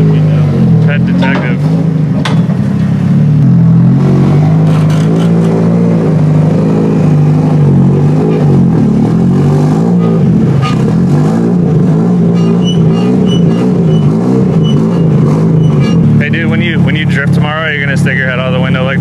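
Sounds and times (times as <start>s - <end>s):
car engine running rough: 0.0s - 19.0s.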